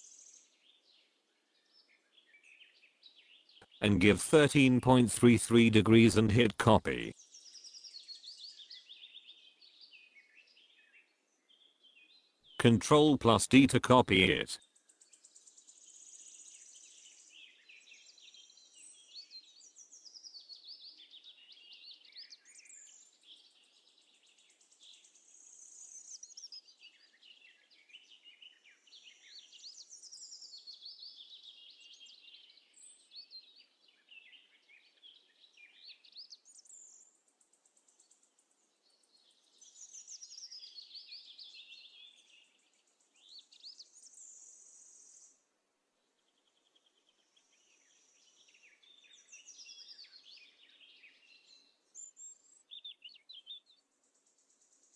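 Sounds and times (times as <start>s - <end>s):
faint birdsong: 0.0s - 54.9s.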